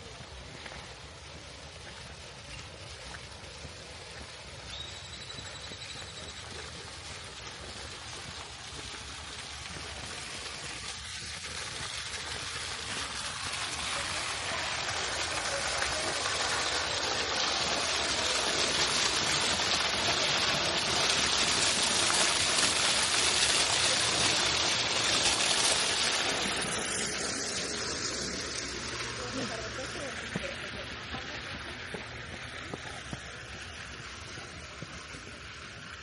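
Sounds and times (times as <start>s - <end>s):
running water: 0.0s - 36.0s.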